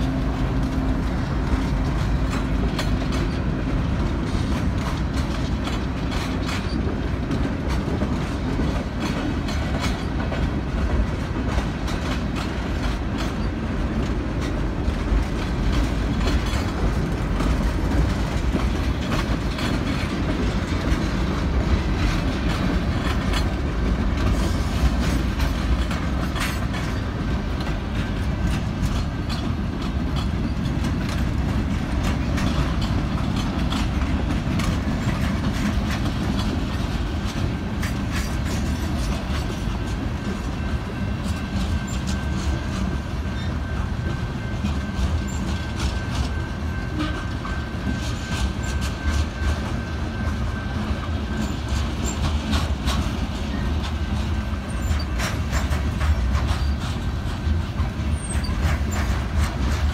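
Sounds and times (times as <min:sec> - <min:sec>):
train wheels rumbling on rails: 0:00.0 - 0:59.9
wheels clacking over rail joints: 0:00.0 - 0:59.9.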